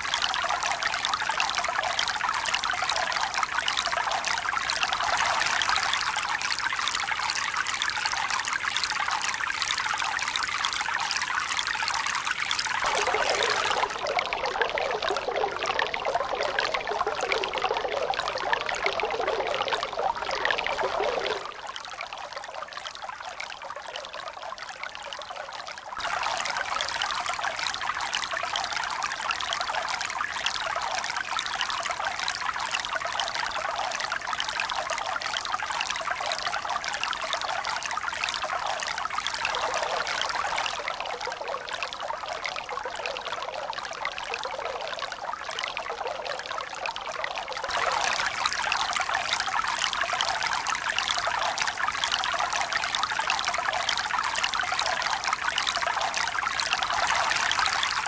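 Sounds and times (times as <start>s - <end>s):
running water: 0.0s - 22.6s, 26.0s - 42.6s, 47.6s - 58.0s.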